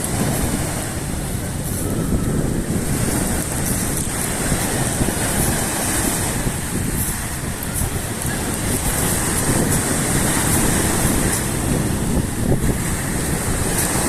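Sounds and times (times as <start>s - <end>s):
surf washing onto shore: 0.0s - 14.0s
wind buffeting microphone: 0.0s - 14.0s.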